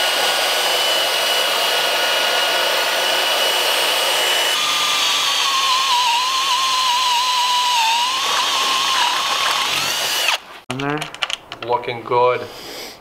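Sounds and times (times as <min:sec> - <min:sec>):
electric drill cutting steel: 0:00.0 - 0:10.4.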